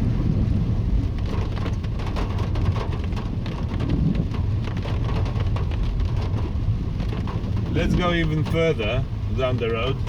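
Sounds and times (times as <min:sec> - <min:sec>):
car engine and tyres rumble: 0:00.0 - 0:10.0
rain ticking on car roof: 0:00.0 - 0:10.0.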